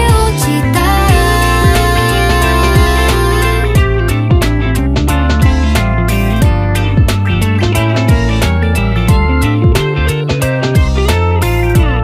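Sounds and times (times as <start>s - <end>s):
guitar-led song with bass and beat: 0.0s - 12.0s.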